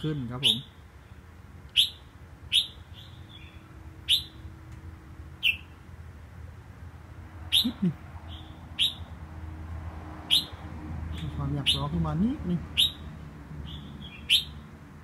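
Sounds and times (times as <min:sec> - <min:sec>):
songbird chirping: 0:00.0 - 0:05.9, 0:07.4 - 0:09.3, 0:10.2 - 0:14.8.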